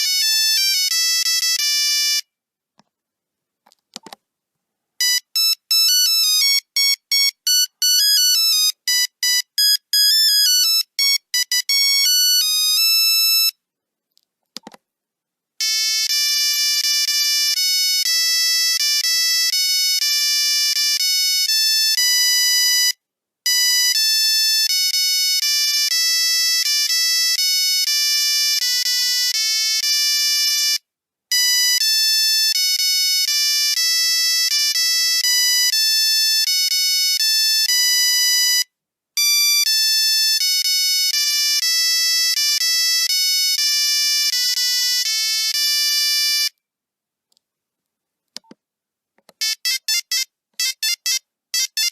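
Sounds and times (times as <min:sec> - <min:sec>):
monophonic ringtone melody: 0:00.0 - 0:02.2, 0:05.0 - 0:13.6, 0:15.6 - 0:46.5, 0:49.4 - 0:51.9.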